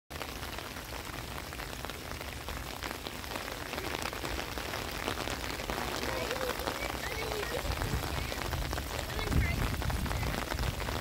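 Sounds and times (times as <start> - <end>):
raindrops ticking: 0.1 - 11.0
steady rain falling: 0.1 - 11.0.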